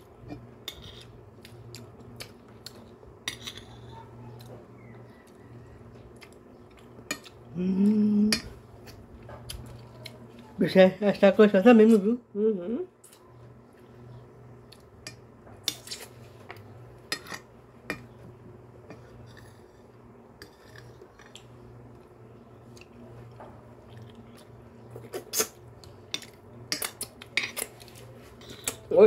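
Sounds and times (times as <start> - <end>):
soft chewing: 0.0 - 11.2, 12.9 - 29.0
low steady hum: 0.0 - 29.0.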